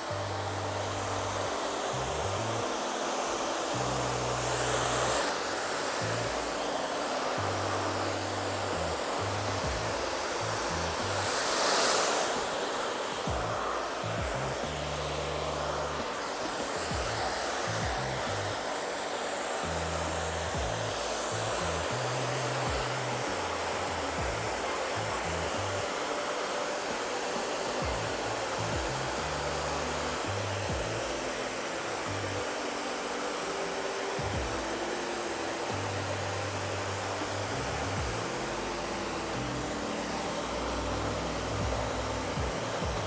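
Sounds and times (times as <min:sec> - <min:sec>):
hair dryer blowing with high whine: 0:00.0 - 0:43.0.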